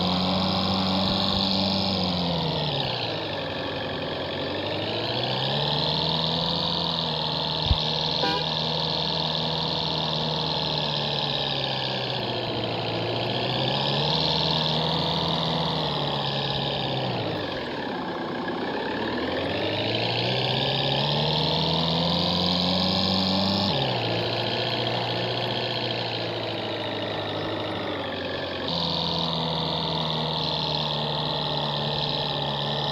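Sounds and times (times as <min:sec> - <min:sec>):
jeep engine revving: 0:00.0 - 0:32.9.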